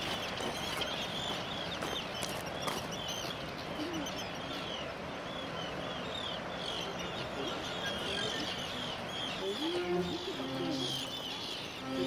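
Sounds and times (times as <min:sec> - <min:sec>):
rushing water: 0:00.0 - 0:12.0
terns calling: 0:00.0 - 0:12.0.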